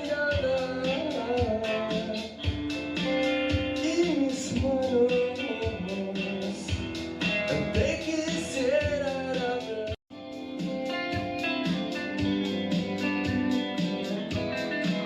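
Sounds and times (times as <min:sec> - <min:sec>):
drums beating: 0:00.0 - 0:15.0
rock band playing live: 0:00.0 - 0:15.0.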